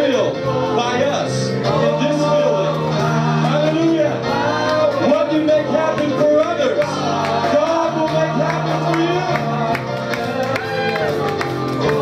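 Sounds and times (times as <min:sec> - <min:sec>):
voices singing: 0:00.0 - 0:12.0
worship band playing upbeat music: 0:00.0 - 0:12.0.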